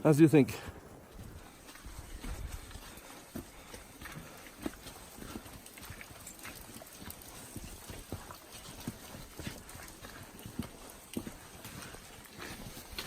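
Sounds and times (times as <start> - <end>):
footsteps on stone trail: 0.0 - 13.0.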